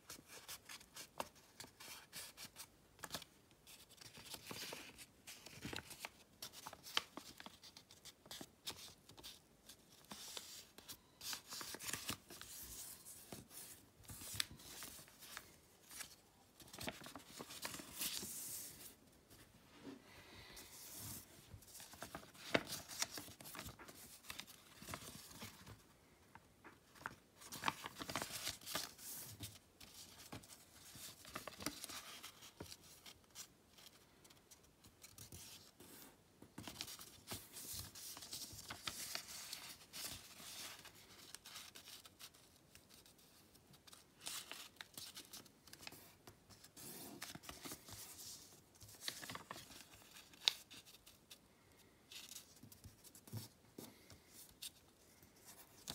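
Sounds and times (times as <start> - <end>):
paper rustling and crinkling: 0.1 - 19.5, 20.6 - 26.0, 26.6 - 51.4, 52.1 - 55.9.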